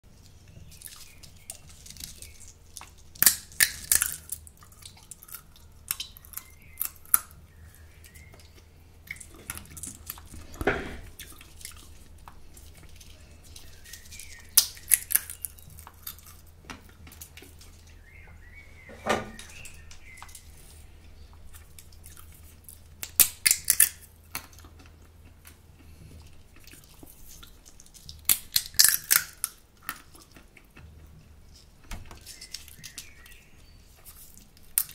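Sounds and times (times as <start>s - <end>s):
faint steady hum: 0.1s - 34.9s
sunflower seeds cracking: 0.2s - 18.0s, 19.3s - 34.9s.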